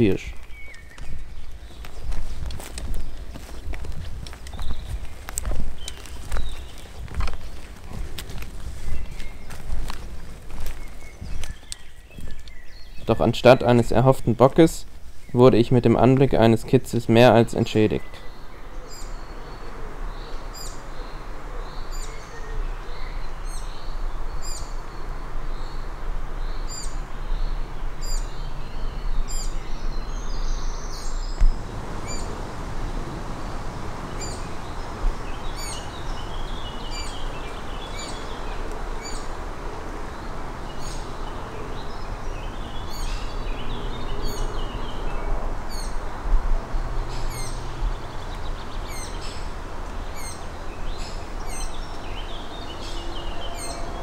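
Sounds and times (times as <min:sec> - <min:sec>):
birds singing: 0:00.0 - 0:54.0
low background rush: 0:00.0 - 0:54.0.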